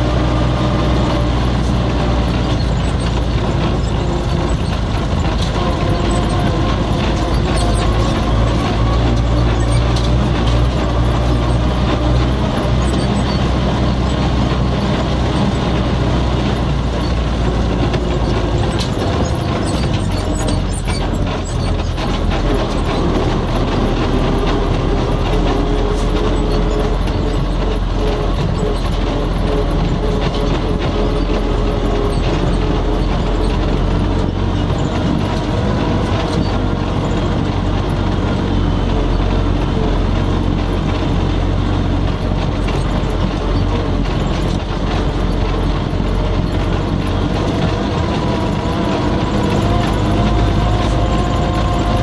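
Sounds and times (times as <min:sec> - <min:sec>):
cab rattling and knocking: 0:00.0 - 0:52.0
tractor diesel engine running: 0:00.0 - 0:52.0.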